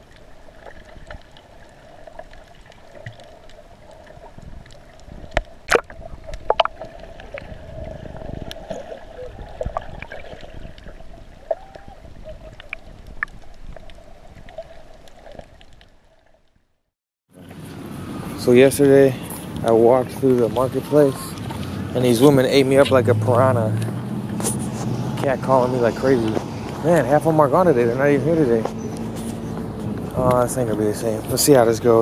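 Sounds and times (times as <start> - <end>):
water gurgling and sloshing: 0.0 - 32.0.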